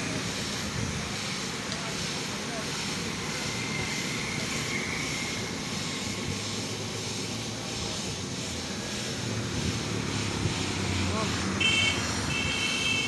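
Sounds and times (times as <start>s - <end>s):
low mechanical drone: 0.0s - 12.4s
paint spray gun hissing: 0.0s - 13.0s.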